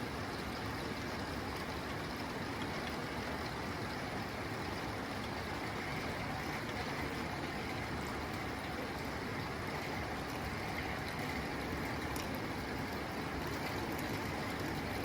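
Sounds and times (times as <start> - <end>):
rain on a tin roof: 0.0 - 15.0.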